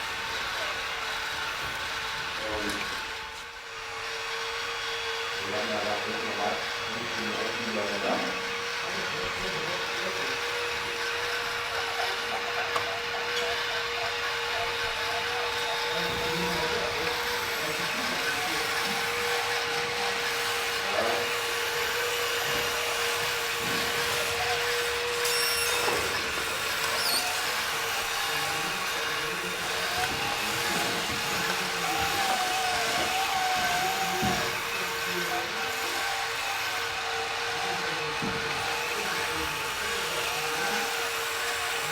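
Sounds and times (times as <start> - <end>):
small electric motors whining: 0.0 - 41.9.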